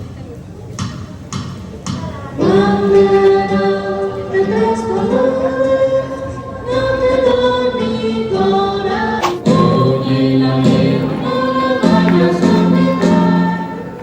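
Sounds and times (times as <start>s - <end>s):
choir singing sustained notes: 2.4s - 14.0s.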